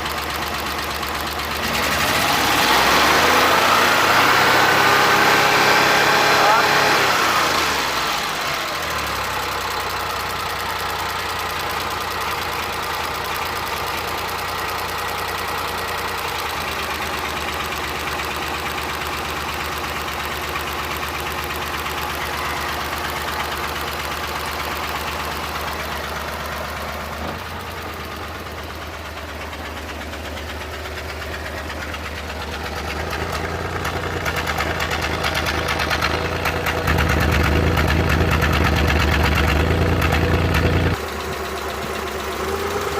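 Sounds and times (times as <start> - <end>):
engine running with misfire: 0.0 - 42.9.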